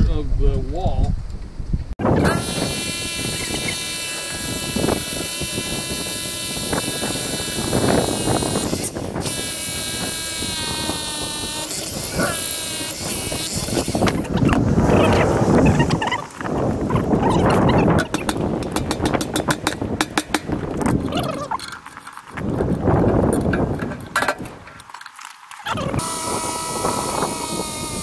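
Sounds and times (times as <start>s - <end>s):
rotary hammer drilling concrete: 2.0s - 24.4s, 25.6s - 28.0s.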